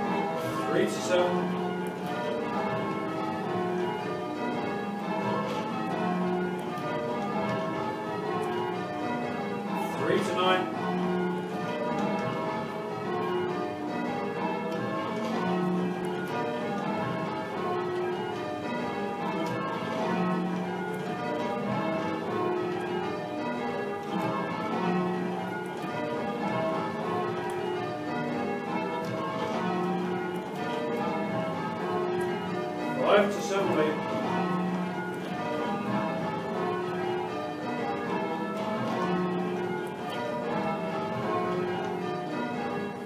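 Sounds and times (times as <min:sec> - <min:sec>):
church bells ringing: 0:00.0 - 0:43.0.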